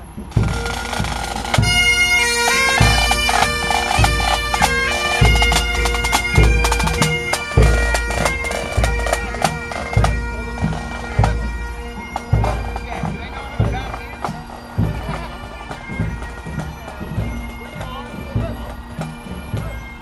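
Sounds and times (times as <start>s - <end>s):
bagpipe chanters playing tune: 0.4s - 20.0s
bagpipe drones: 0.4s - 20.0s.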